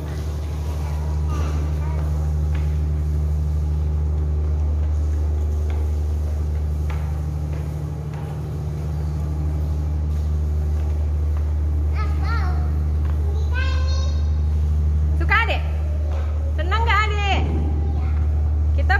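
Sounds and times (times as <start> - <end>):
ship engine machinery drone: 0.0 - 18.9.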